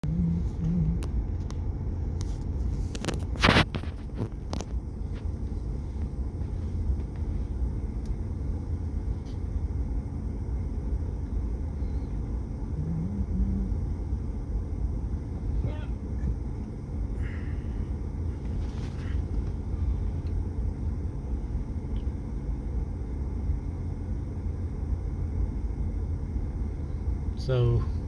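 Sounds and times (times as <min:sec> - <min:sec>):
car rumbling in traffic: 0:00.0 - 0:28.0.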